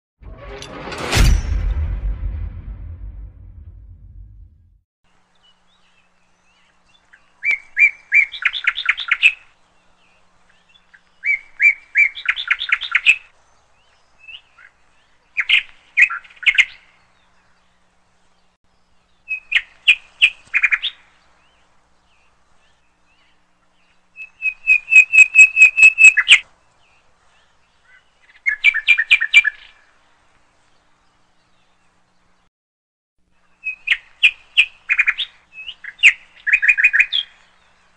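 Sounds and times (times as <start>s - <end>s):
songbird singing: 5.1s - 32.5s, 33.3s - 37.9s.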